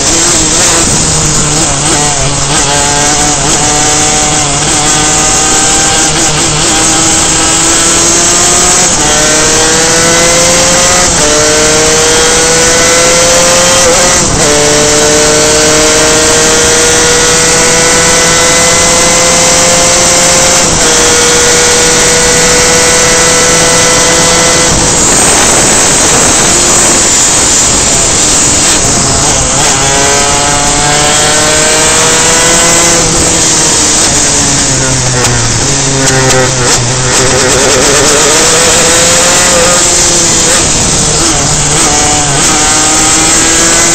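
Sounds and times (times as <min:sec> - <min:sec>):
two-stroke kart engine racing: 0:00.0 - 0:43.9.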